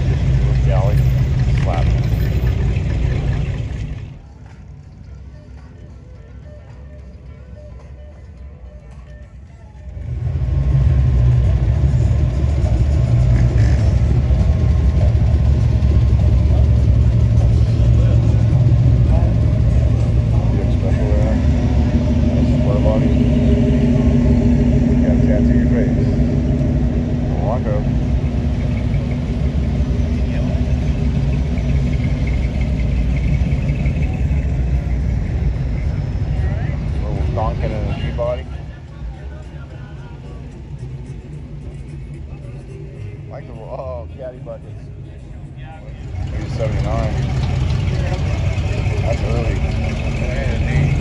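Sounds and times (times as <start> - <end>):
car engine exhaust rumble: 0.0 - 5.3, 9.8 - 43.8, 45.9 - 51.0.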